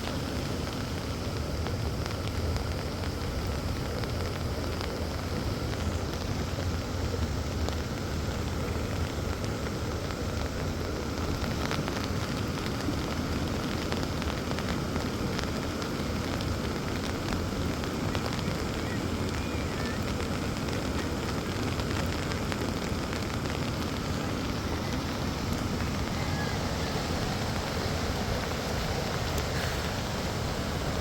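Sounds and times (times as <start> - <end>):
heavy rain hiss: 0.0 - 31.0
raindrop ticks: 0.0 - 31.0.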